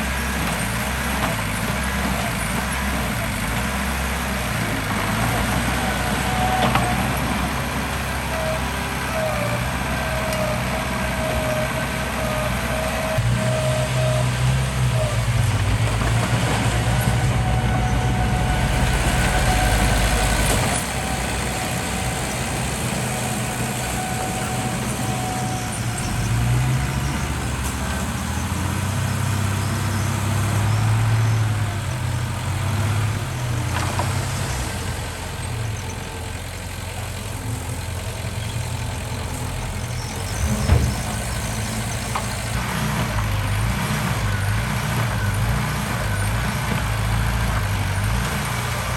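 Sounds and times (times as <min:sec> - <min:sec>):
heavy diesel machinery working: 0:00.0 - 0:48.9.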